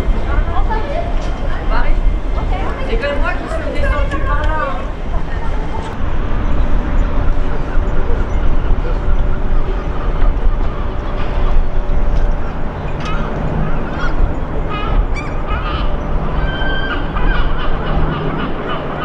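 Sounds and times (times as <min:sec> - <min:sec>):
bird calls: 0:00.0 - 0:19.0
low outdoor rumble: 0:00.0 - 0:19.0.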